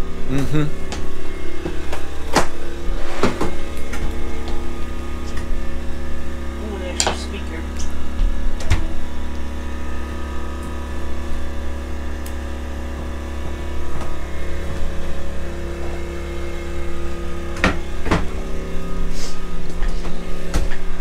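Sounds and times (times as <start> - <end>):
generator engine hum: 0.0 - 21.0.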